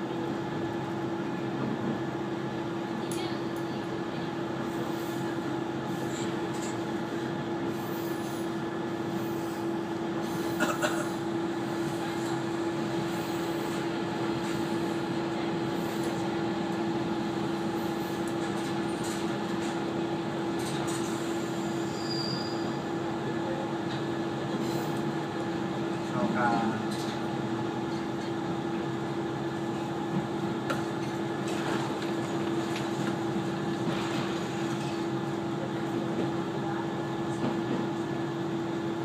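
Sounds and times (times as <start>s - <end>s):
railcar engine and running noise: 0.0s - 39.0s.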